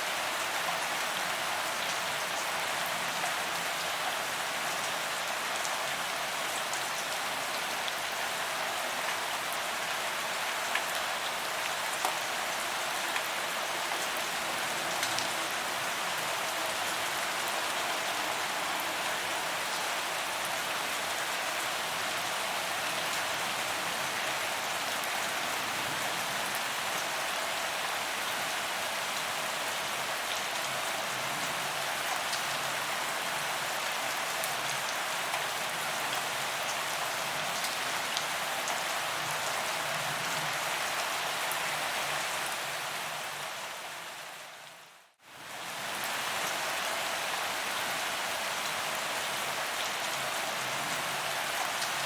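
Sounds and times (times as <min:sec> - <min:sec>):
rain on pavement: 0:00.0 - 0:52.0.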